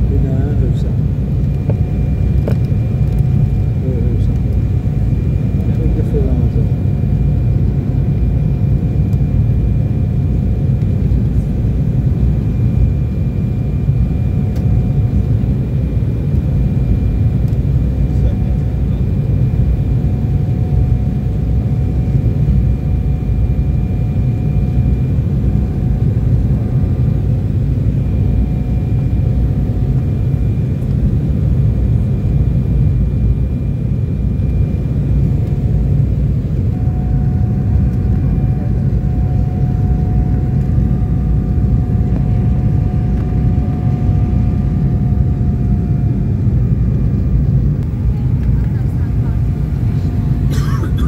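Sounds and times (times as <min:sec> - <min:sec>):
high engine whine: 0:00.0 - 0:51.0
jet cabin engine rumble: 0:00.0 - 0:51.0.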